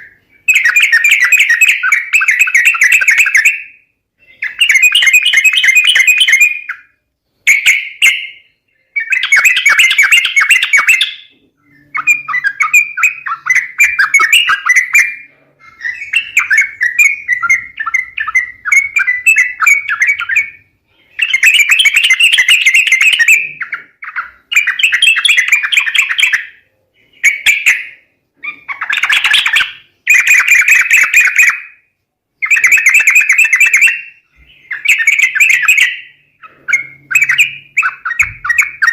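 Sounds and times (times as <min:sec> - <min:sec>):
bulbuls chattering and calling: 0:00.0 - 0:06.9, 0:07.5 - 0:31.8, 0:32.4 - 0:38.9.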